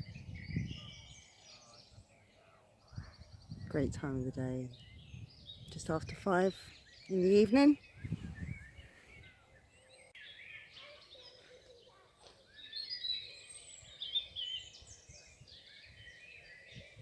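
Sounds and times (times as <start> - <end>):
small birds singing and chirping: 0.0 - 17.0.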